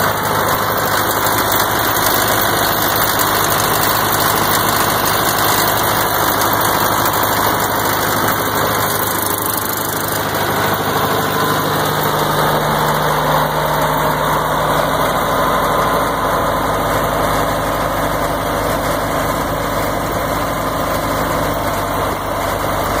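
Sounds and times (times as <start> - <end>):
wheel loader diesel engine idling: 0.0 - 23.0.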